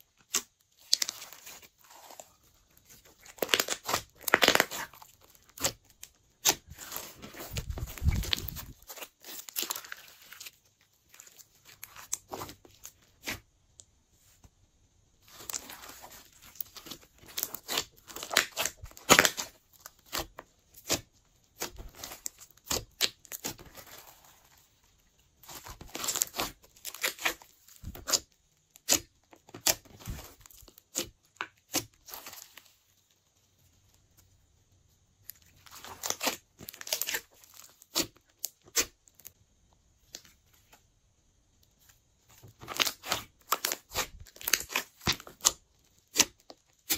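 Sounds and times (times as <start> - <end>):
hands squishing slime: 0.1 - 13.4, 15.2 - 32.9, 35.3 - 39.3, 42.5 - 46.9.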